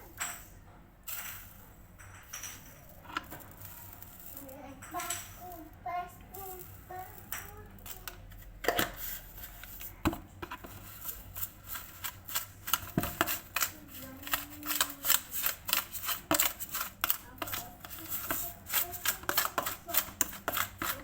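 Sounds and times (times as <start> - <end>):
fork scraping mixing bowl: 3.0 - 21.0.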